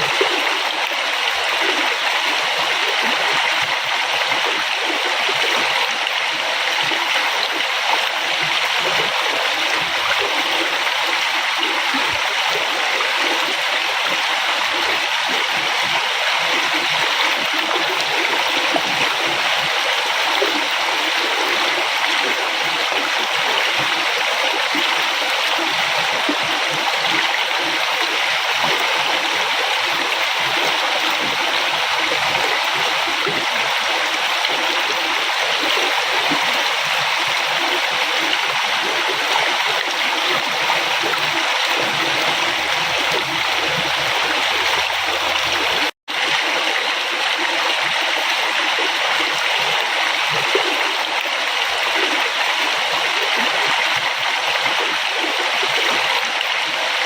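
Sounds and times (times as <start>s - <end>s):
river water splashing over rocks: 0.0s - 57.0s.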